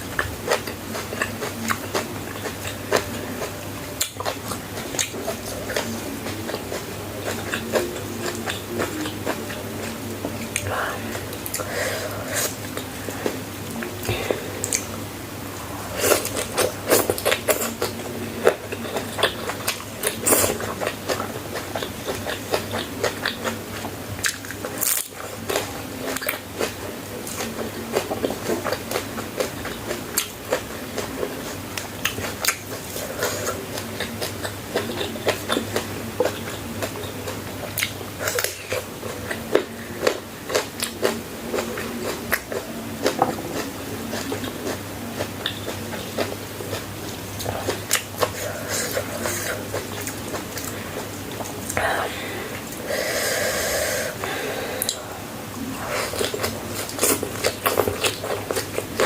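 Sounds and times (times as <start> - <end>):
person chewing crunchy food: 0.0 - 15.0, 15.6 - 52.0, 52.6 - 59.0
steady low hum: 0.0 - 59.0.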